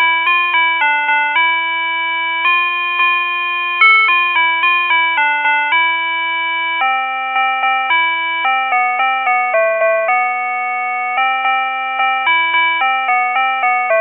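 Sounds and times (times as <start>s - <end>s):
crossing signal beeping melody: 1.5s - 14.0s.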